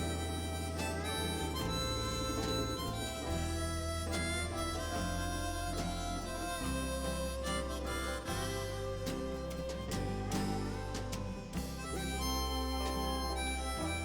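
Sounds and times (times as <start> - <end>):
blues music with harmonica: 0.0 - 14.0.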